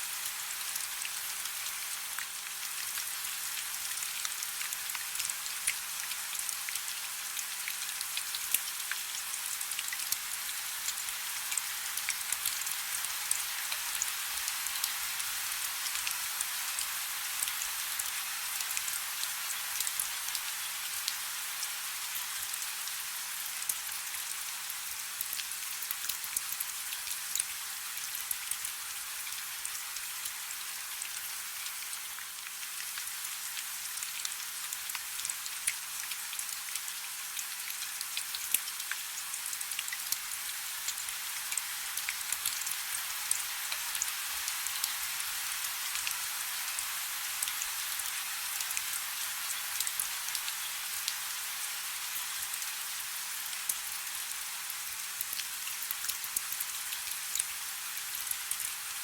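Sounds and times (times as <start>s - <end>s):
soft rain hissing: 0.0s - 59.0s.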